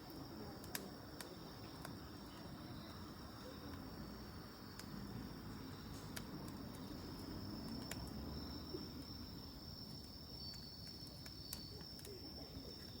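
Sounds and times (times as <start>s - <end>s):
campfire crackling: 0.0s - 13.0s
insects trilling: 0.0s - 13.0s.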